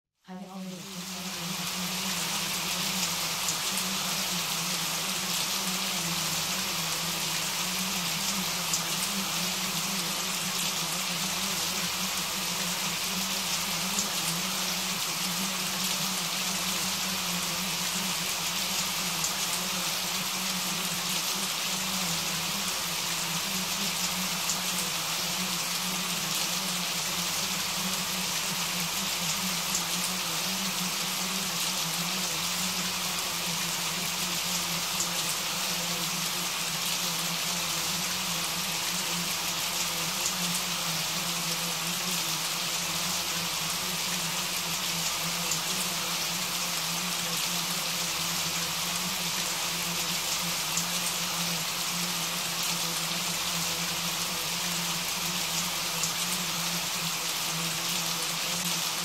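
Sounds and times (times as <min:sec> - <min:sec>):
heavy rain falling: 0:00.4 - 0:59.0.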